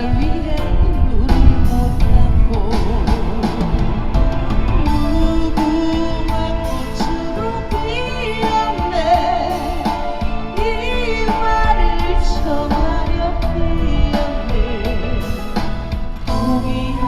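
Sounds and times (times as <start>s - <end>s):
instrumental accompaniment: 0.0s - 17.0s
woman singing a slow ballad: 0.0s - 17.0s.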